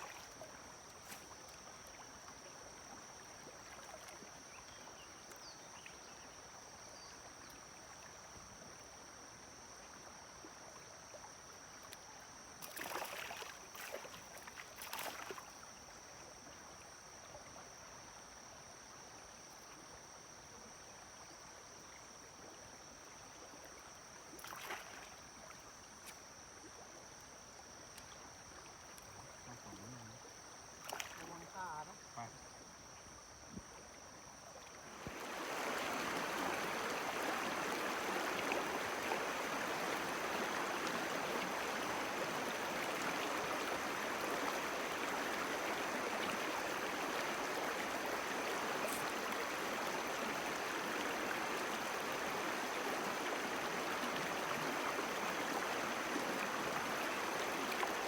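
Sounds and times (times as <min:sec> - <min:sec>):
faint running water: 0:00.0 - 0:58.0.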